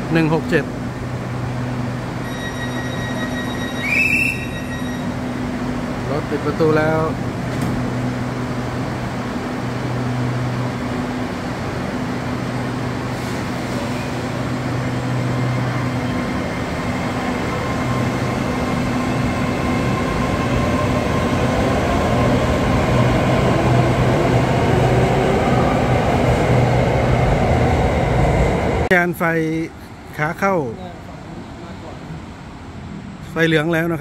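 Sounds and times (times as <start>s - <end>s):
electric train hum: 0.0s - 34.0s
train rumble: 0.0s - 34.0s.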